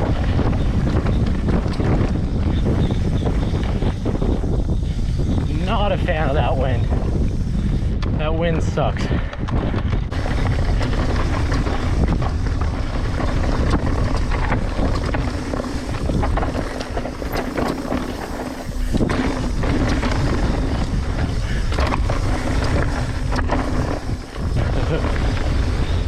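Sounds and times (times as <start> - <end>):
bike knocks and rattles: 0.0 - 7.4, 9.1 - 26.0
wind buffeting microphone: 0.0 - 26.0.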